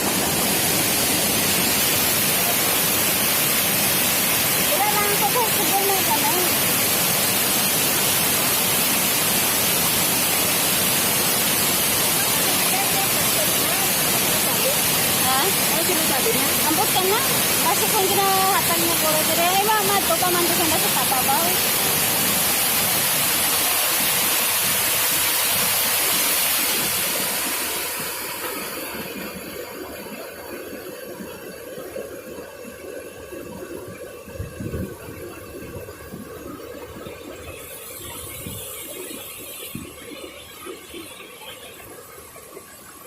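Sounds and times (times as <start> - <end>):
rushing stream water: 0.0 - 43.0.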